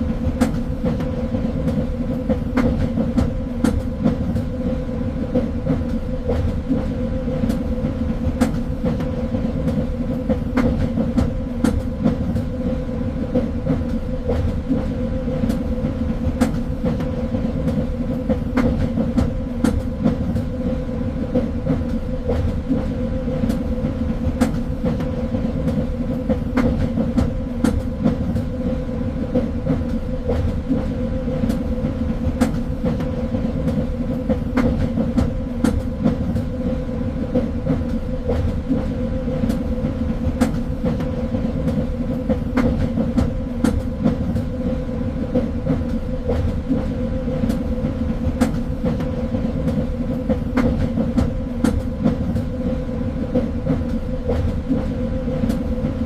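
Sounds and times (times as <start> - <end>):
train car rumble: 0.0 - 56.0.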